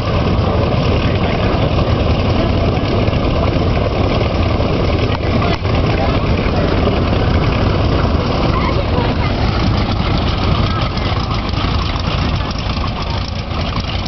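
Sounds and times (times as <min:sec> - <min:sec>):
biplane engine idling: 0:00.0 - 0:14.0.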